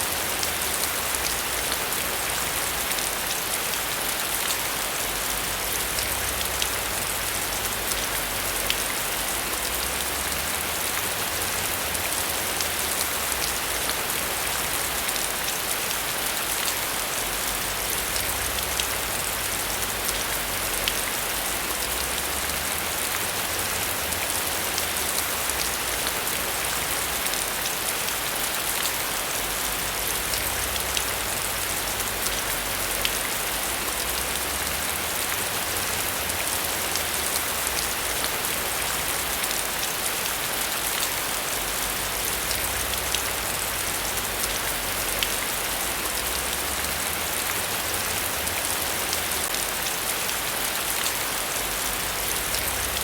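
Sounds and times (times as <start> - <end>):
heavy rain on surfaces: 0.0 - 53.0.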